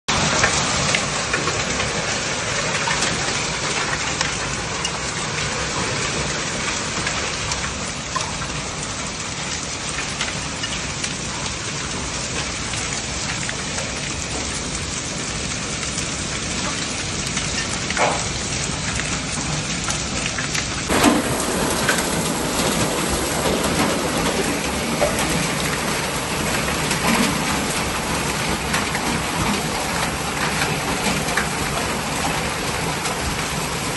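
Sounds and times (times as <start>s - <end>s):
heavy rain and hail: 0.1s - 33.9s.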